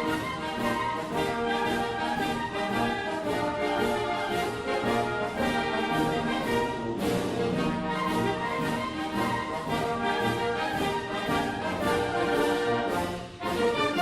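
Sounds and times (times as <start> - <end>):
orchestral brass music: 0.0 - 14.0.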